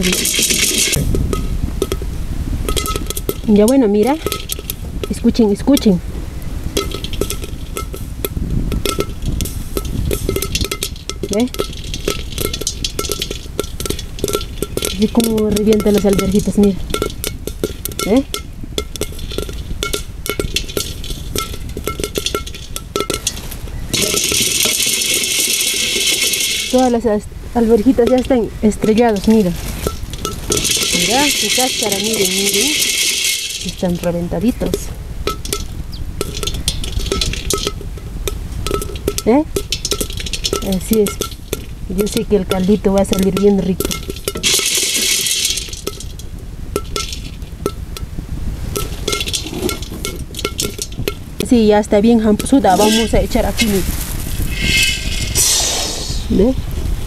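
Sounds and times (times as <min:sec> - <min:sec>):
wooden stick stirring and knocking: 0:00.0 - 0:06.0, 0:06.6 - 0:27.0, 0:27.6 - 0:55.5
dried peas crackling and popping: 0:00.0 - 0:56.9
steady hiss: 0:00.0 - 0:57.0.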